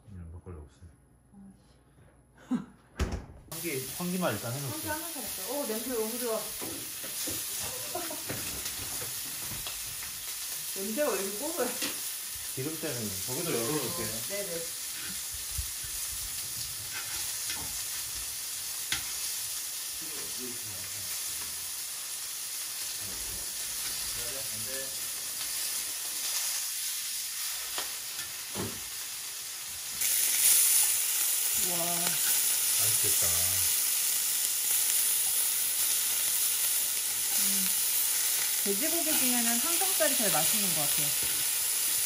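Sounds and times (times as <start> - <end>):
meat sizzling in a skillet: 3.5 - 42.0.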